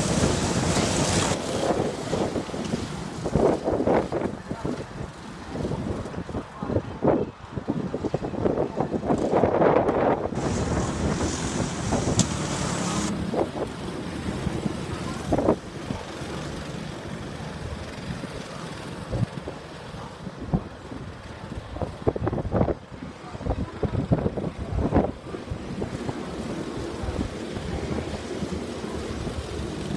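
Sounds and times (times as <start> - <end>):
wind buffeting microphone: 0.0 - 16.2, 19.0 - 29.9
go-kart engines running: 0.0 - 29.9.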